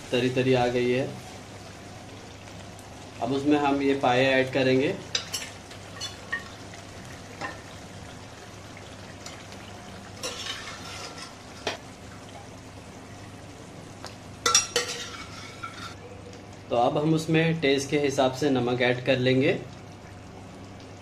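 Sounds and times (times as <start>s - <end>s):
gravy sizzling and bubbling: 0.0s - 21.0s.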